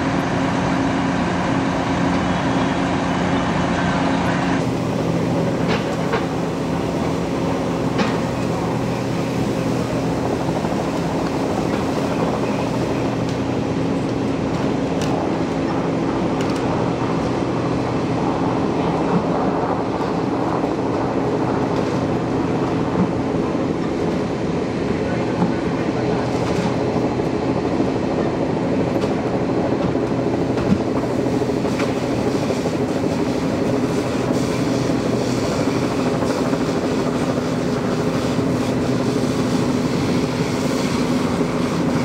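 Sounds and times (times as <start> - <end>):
fire engine running: 0.0 - 42.0.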